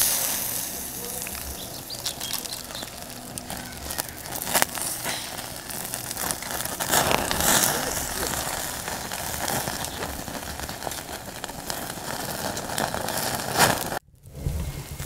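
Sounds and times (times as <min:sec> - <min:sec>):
steady hiss: 0:00.0 - 0:15.0
wood crackling and popping: 0:00.0 - 0:15.0.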